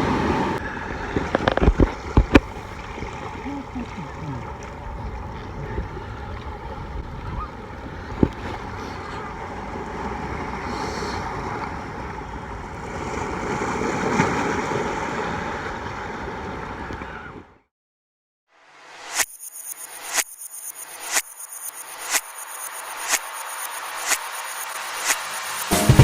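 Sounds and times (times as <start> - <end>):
waves rushing: 0.0 - 17.3, 21.8 - 26.0.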